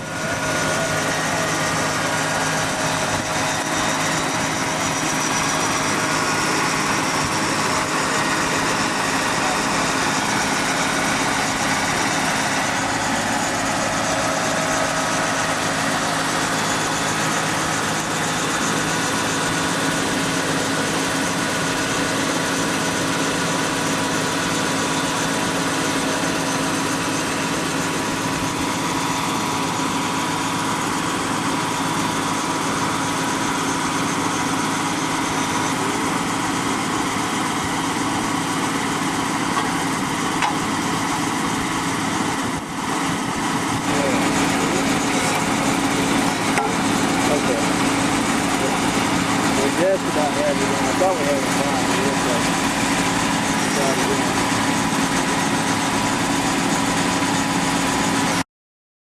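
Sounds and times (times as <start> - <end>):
tractor engine running: 0.0 - 58.4.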